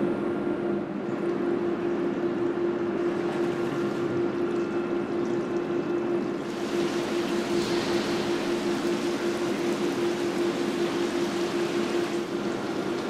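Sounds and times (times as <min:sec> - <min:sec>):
industrial plant hum: 0:00.0 - 0:13.0.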